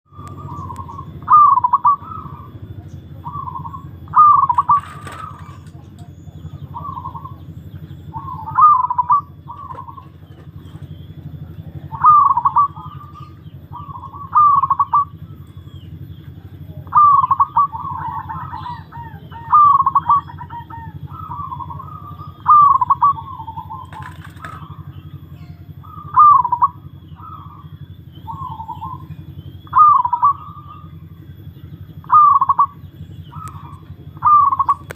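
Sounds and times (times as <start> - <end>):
dove cooing: 0.1 - 34.9
steady low hum: 0.1 - 34.9.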